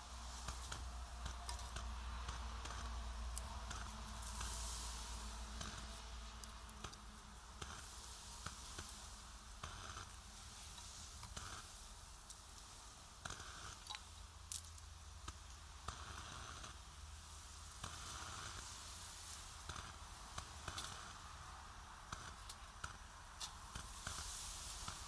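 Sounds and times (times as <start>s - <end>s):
campfire crackles: 0.0s - 25.0s
food sizzling: 0.0s - 25.0s
low hiss: 0.0s - 25.0s.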